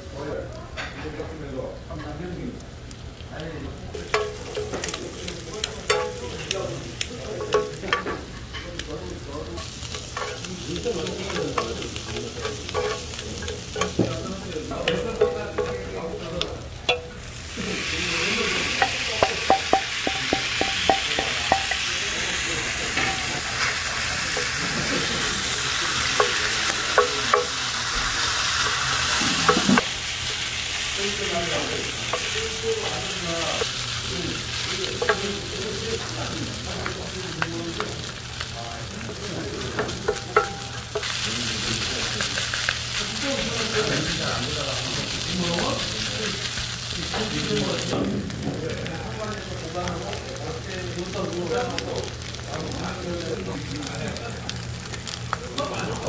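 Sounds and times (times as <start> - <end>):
meat sizzling on a grill: 0.0 - 56.0.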